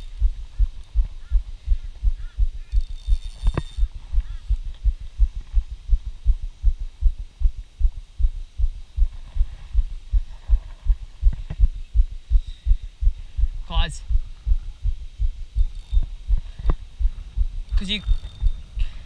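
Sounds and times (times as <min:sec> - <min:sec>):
heartbeat thumps: 0:00.0 - 0:03.2, 0:03.8 - 0:19.0.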